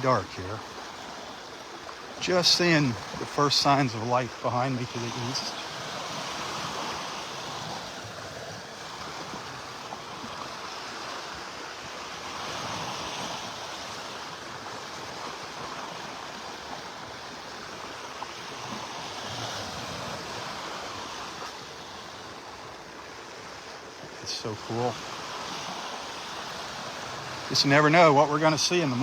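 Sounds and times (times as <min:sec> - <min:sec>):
small waves breaking on beach: 0:00.0 - 0:29.0.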